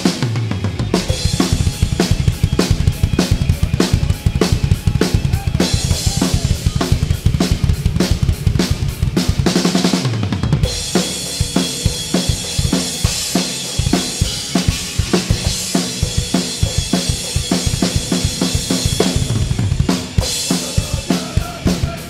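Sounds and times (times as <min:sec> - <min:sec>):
amplified band music: 0:00.0 - 0:22.0
fast live drum kit: 0:00.0 - 0:22.0.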